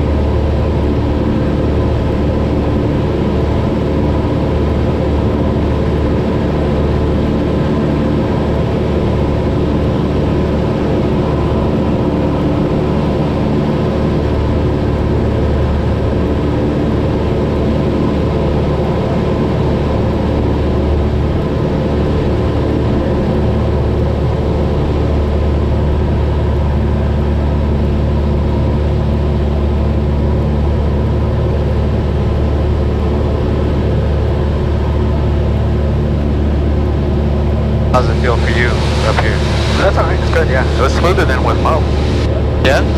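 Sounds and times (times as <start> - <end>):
propeller aircraft engine drone: 0.0 - 42.9.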